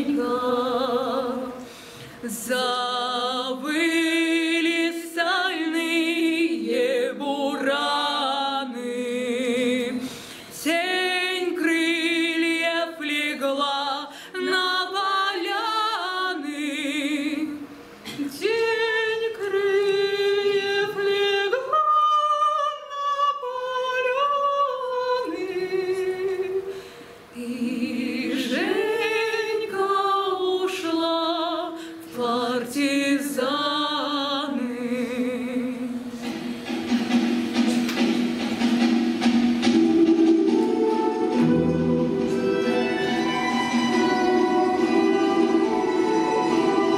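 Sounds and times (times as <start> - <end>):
person singing with vibrato: 0.0 - 36.3, 39.7 - 46.9.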